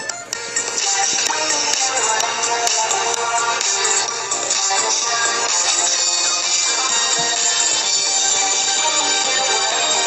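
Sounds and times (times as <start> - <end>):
song playing: 0.0 - 10.0.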